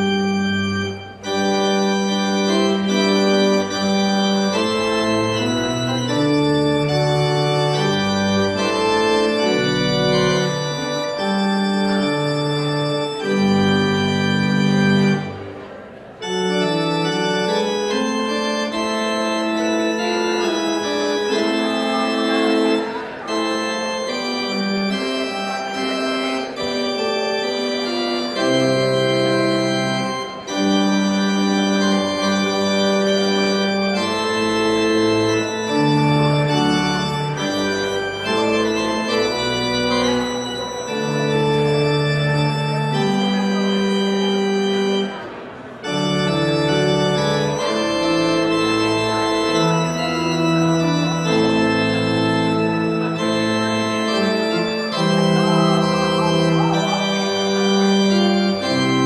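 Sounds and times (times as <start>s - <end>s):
pipe organ chords: 0.0s - 59.0s.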